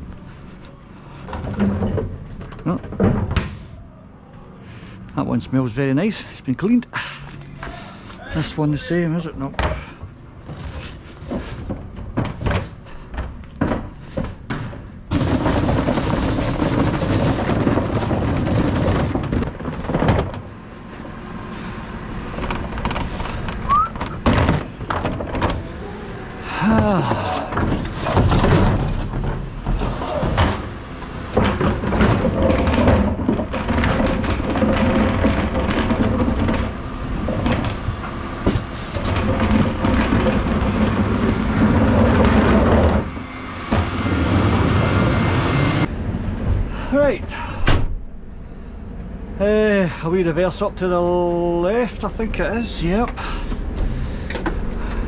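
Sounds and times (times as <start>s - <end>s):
bins banging and thudding: 0.0s - 3.8s, 7.6s - 48.1s
wheelie bins rattling over paving: 7.8s - 47.6s, 49.7s - 55.0s.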